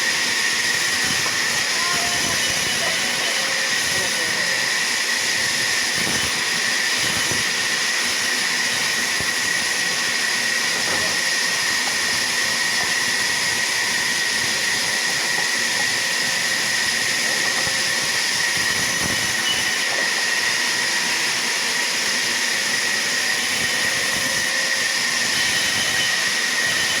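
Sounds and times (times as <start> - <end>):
sawmill machinery whining: 0.0 - 27.0.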